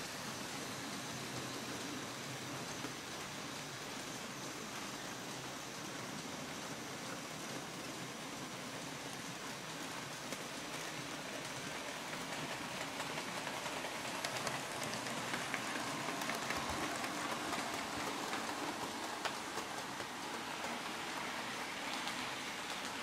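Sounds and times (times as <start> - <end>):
model train wheels and motors hissing: 0.0 - 23.0.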